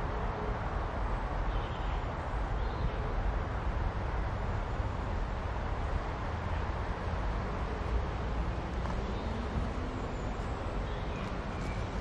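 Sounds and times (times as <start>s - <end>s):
low rumbling outdoor background: 0.0s - 12.0s.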